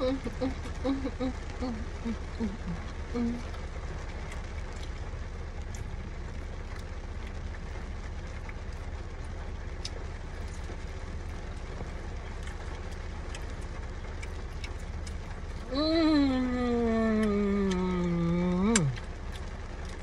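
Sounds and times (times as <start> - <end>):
car cabin rumble and hiss: 0.0 - 20.0.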